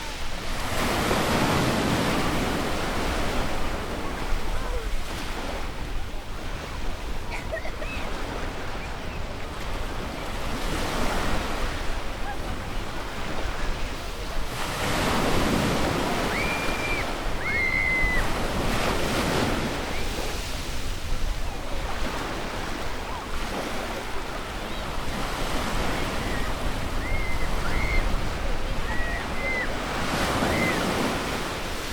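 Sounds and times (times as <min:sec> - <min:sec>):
ocean waves breaking on beach: 0:00.0 - 0:31.9
wind rumbling on microphone: 0:00.0 - 0:31.9.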